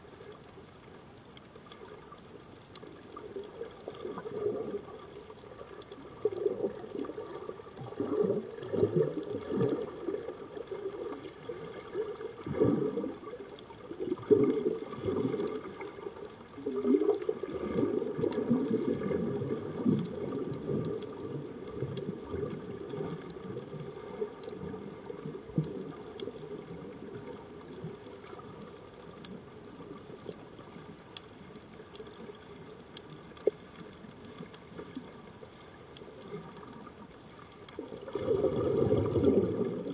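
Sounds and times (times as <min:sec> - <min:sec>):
faint ticks: 0:00.0 - 0:39.9
underwater bubbling and gurgling: 0:00.0 - 0:39.9.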